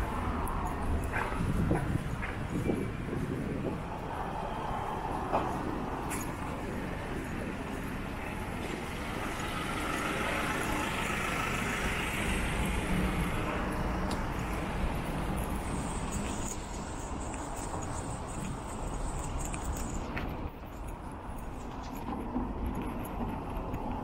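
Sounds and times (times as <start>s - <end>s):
cars and trucks passing: 0.0s - 24.0s.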